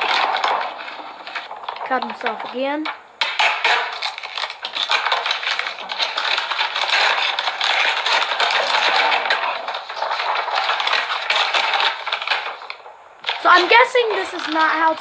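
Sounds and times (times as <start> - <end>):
crackling and scraping clicks: 0.0 - 15.0.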